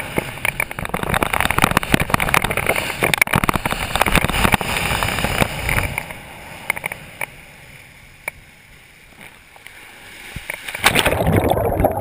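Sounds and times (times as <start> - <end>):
water rushing off water ski: 0.0 - 12.0.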